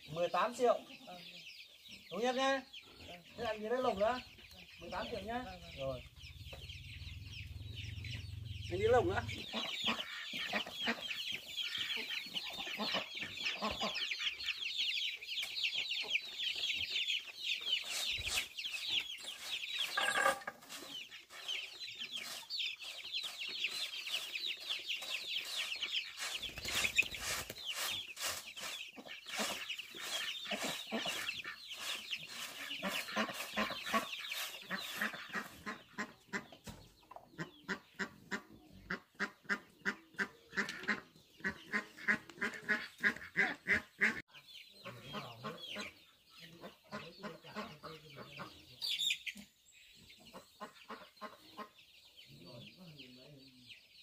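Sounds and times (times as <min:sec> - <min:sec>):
chickens clucking and peeping: 0:00.0 - 0:54.0.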